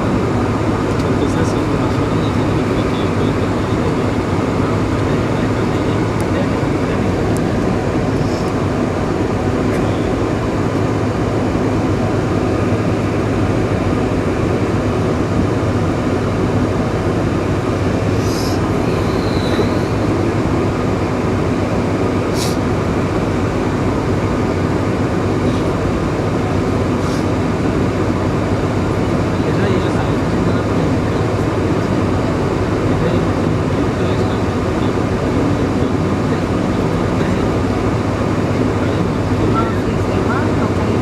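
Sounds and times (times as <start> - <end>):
aircraft cabin rumble: 0.0 - 41.0
low hum: 0.0 - 41.0.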